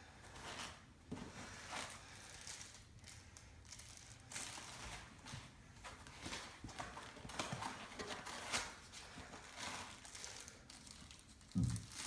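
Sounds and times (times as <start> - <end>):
packaging rustling and crinkling: 1.5 - 12.0.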